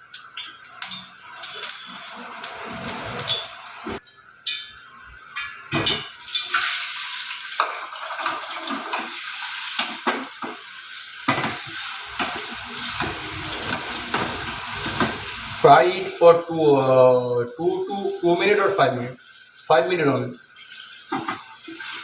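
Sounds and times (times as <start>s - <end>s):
cheese sizzling in a pan: 0.0s - 4.0s, 5.1s - 22.0s.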